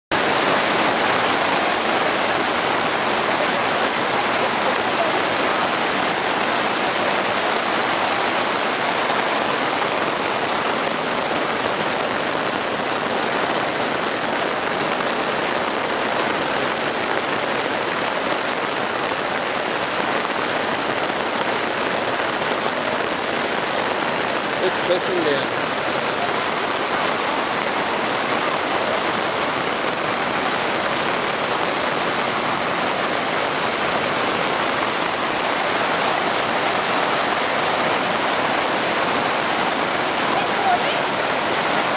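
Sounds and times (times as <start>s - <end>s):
heavy rain falling: 0.1s - 41.9s.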